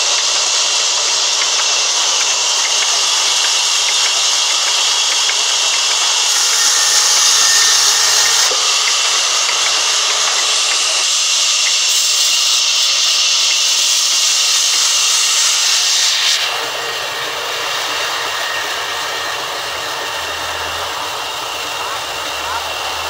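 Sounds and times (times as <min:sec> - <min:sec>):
band saw cutting timber: 0:00.0 - 0:23.0.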